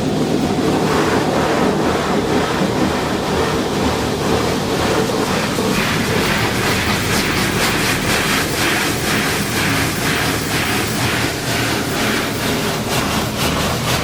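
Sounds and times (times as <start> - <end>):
car wash spray pulsing: 0.0 - 14.0.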